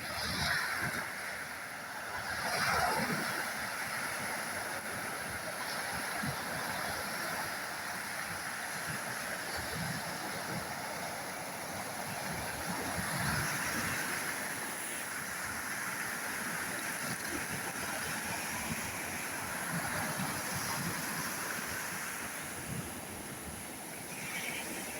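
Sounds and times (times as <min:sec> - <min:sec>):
surf washing onto shore: 0:00.0 - 0:24.9
wind: 0:00.0 - 0:24.9.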